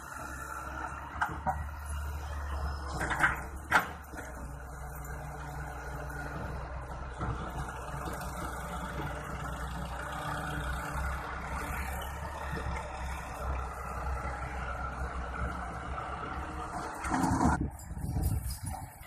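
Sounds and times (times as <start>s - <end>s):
tractor diesel engines running: 0.0s - 19.0s.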